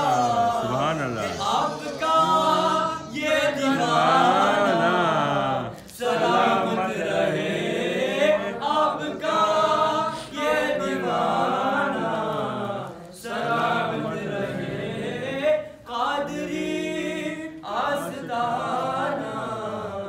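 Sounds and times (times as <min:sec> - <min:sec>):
men singing unaccompanied: 0:00.0 - 0:20.0.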